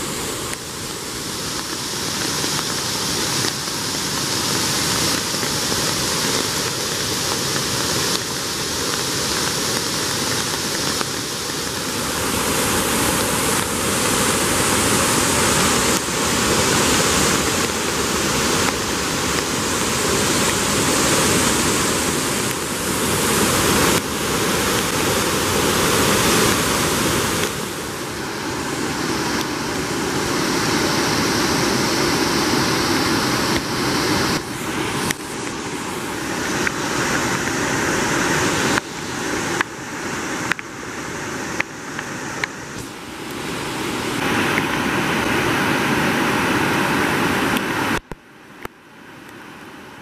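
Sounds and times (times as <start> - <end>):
water rushing over rocks: 0.0 - 50.0.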